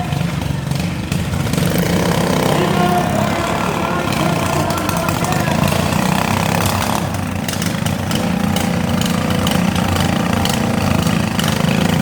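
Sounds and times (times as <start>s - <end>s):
lawn mower engines running: 0.0s - 12.0s.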